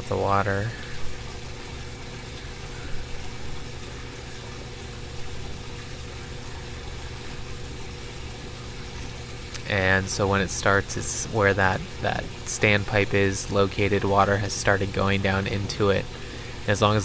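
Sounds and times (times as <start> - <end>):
low mechanical hum: 0.0 - 17.0
running water hiss: 0.0 - 17.0.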